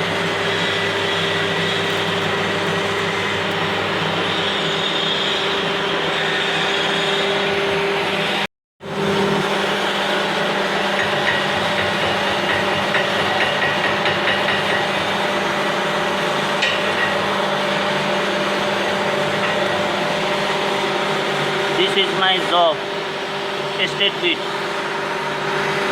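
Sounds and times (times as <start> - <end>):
machine hum: 0.0 - 25.9.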